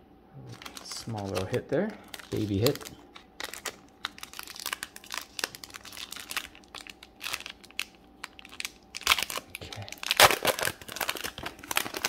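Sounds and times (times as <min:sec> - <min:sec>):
foil wrapper crinkling: 0:00.5 - 0:12.0
blade slitting foil wrapper: 0:00.6 - 0:12.0.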